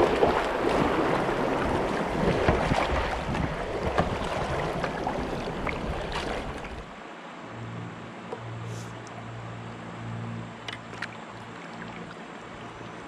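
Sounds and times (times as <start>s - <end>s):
river water rushing around kayak: 0.0s - 13.0s.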